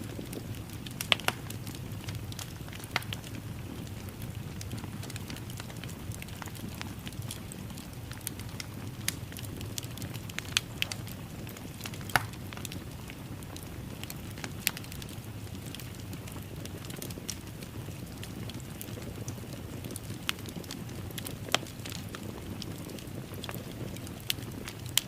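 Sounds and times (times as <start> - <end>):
fire pops and snaps: 0.0 - 25.0
low rumble of flames: 0.0 - 25.0.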